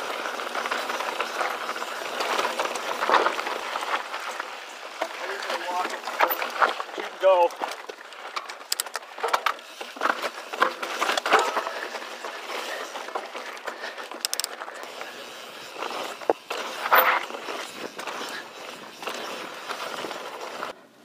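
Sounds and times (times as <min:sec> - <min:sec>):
bike clicking and rattling: 0:00.0 - 0:20.8
tyres crunching on dirt and rock: 0:00.0 - 0:20.8.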